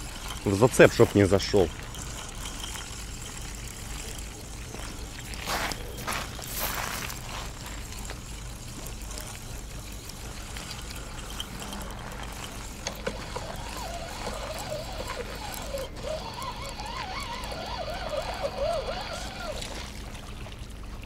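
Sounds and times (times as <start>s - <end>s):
fishing reel clicks: 0.0s - 6.6s, 7.5s - 19.7s
faint wavering tones: 0.0s - 19.8s
water trickling and sloshing: 0.0s - 21.0s.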